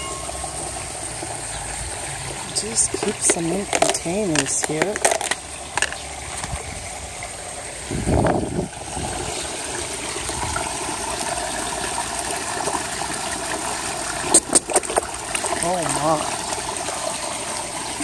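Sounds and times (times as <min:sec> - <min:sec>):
pond water trickling: 0:00.0 - 0:18.0.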